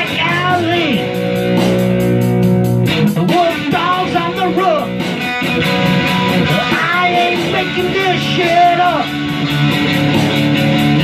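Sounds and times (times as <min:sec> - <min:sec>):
electric guitar rock groove: 0:00.0 - 0:11.0
steady ticking beat: 0:00.1 - 0:11.0.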